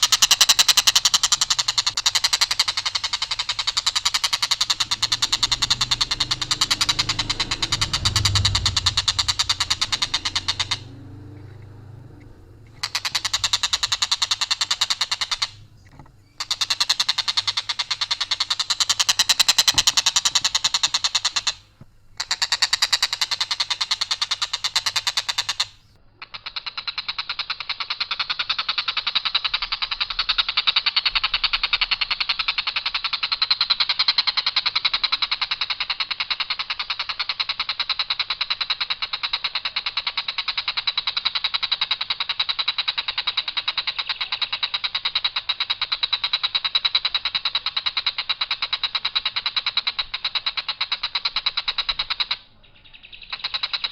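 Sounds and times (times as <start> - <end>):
kingfisher rattling call: 0.0 - 53.9.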